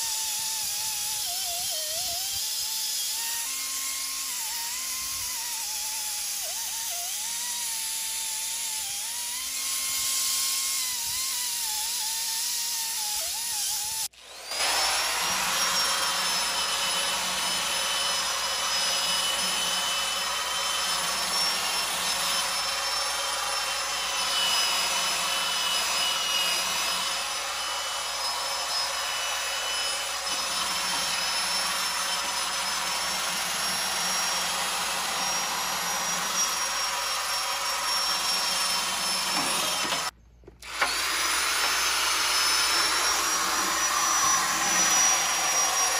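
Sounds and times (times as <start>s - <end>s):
pneumatic grinder whine: 0.0s - 45.9s.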